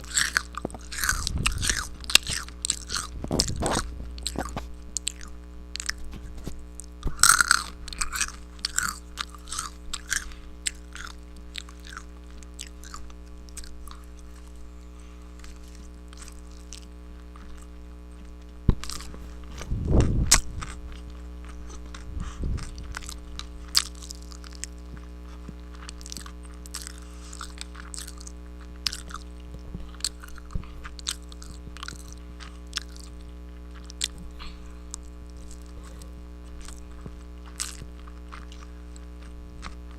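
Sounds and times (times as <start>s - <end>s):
crunchy bites and chewing: 0.0s - 39.9s
low hum: 0.0s - 39.9s.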